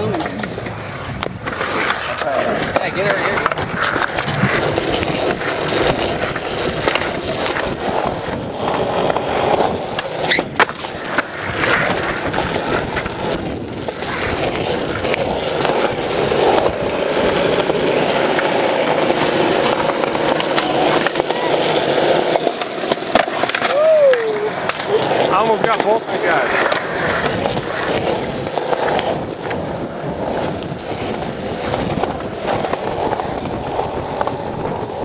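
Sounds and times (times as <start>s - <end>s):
skateboard clack: 0.0s - 35.0s
skateboard wheels rolling on concrete: 0.0s - 35.0s.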